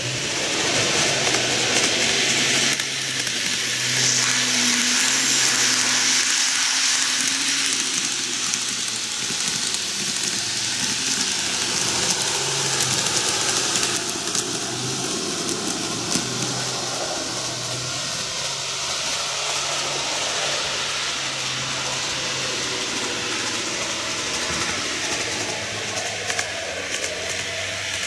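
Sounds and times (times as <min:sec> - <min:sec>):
model train motor hum: 0:00.0 - 0:28.0
wheels hissing on track: 0:00.0 - 0:28.0.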